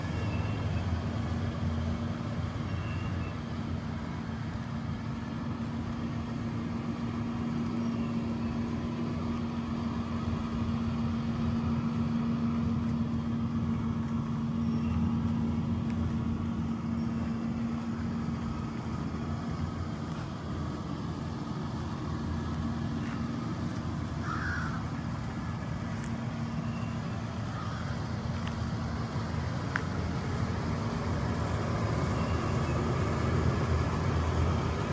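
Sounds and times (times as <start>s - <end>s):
pickup engine idling: 0.0s - 34.9s.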